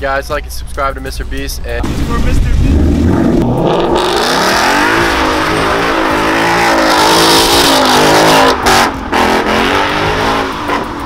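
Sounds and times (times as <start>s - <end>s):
car engine revving hard: 1.8s - 11.0s
tires spinning: 1.8s - 11.0s.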